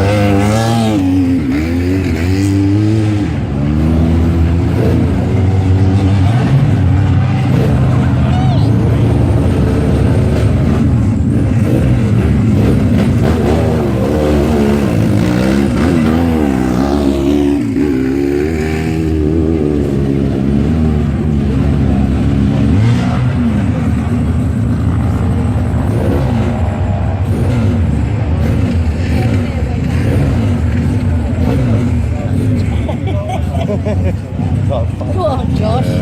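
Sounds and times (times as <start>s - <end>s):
motorcycle engines revving hard: 0.0s - 36.0s.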